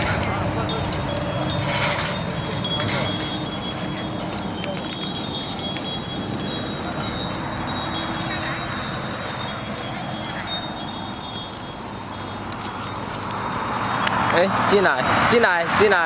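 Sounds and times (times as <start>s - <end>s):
small bells tinkling: 0.0s - 15.0s.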